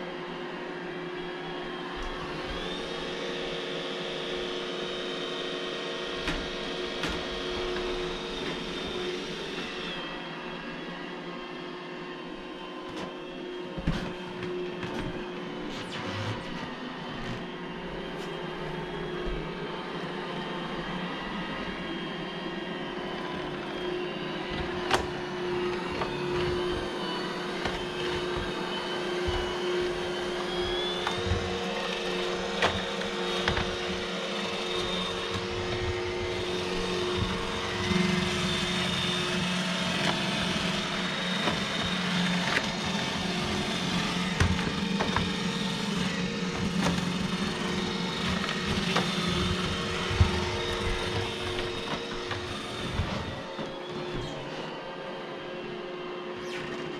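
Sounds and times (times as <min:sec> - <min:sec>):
robot vacuum running: 0:00.1 - 0:56.9.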